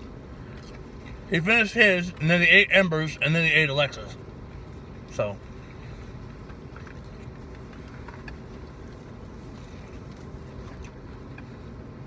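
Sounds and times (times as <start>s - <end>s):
car interior hum: 0.0s - 12.0s.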